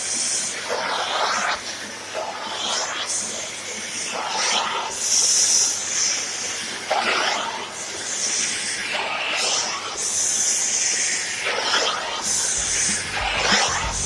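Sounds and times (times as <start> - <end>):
vacuum cleaner suction hiss: 0.0 - 14.0.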